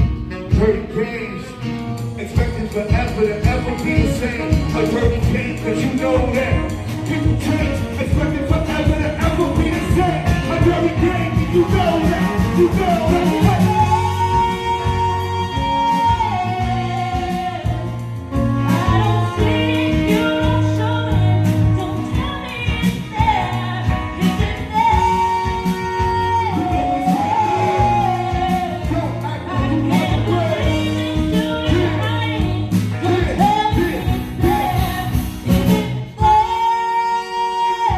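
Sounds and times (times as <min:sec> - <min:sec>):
live band playing: 0:00.0 - 0:37.9
wordless singing: 0:00.7 - 0:37.9.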